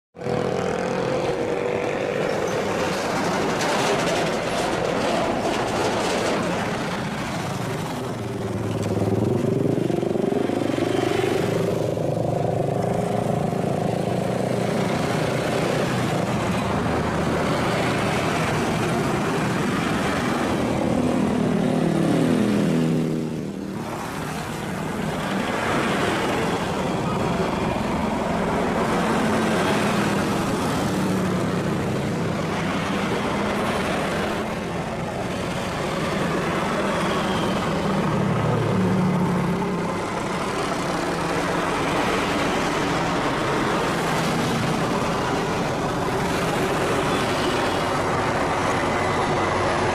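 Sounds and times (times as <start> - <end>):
helicopter drone: 0.2 - 49.9
motor vehicles passing by: 0.2 - 49.9.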